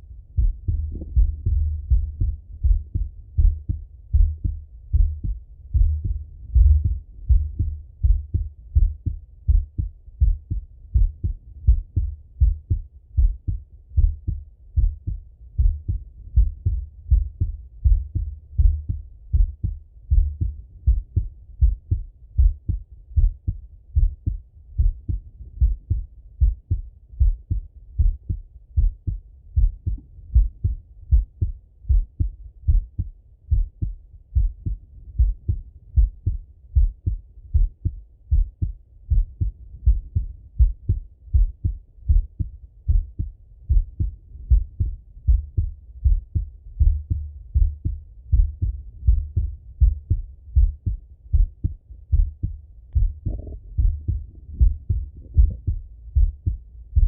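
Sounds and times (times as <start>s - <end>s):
heartbeat through stethoscope: 0.0s - 57.0s.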